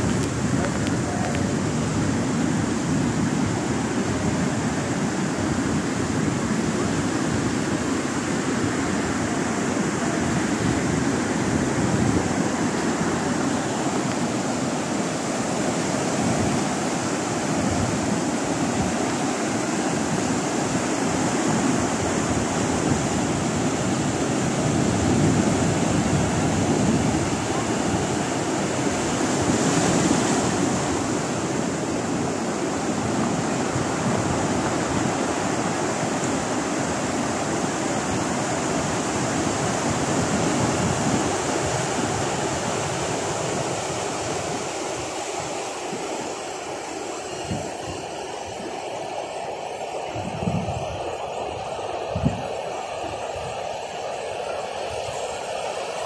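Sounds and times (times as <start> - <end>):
surf breaking on a stony beach: 0.0 - 56.0.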